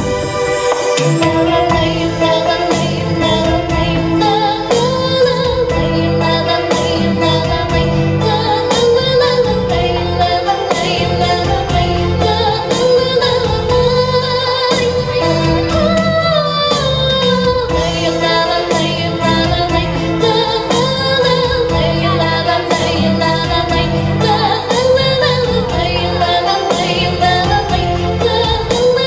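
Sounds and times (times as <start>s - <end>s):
backing music with beat and bass: 0.0s - 29.0s
girl singing into microphone: 0.0s - 29.0s.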